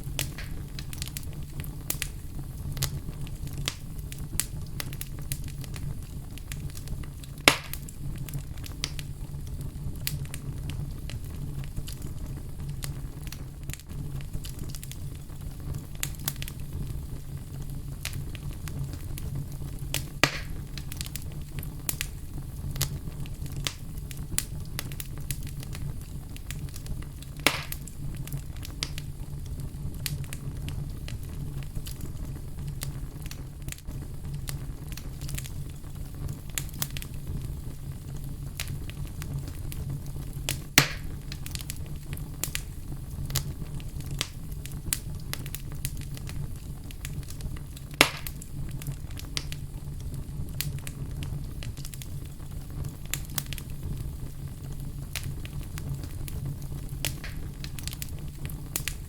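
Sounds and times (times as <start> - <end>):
fire crackling and popping: 0.0 - 59.0
low rumble of fire: 0.0 - 59.0.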